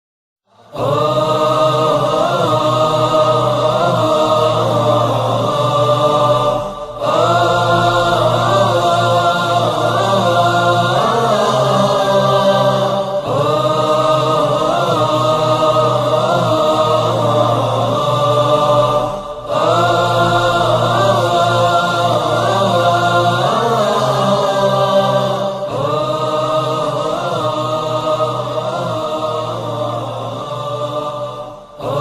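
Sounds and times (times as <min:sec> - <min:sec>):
voices chanting long notes: 0:00.5 - 0:32.0
low drone: 0:00.7 - 0:32.0.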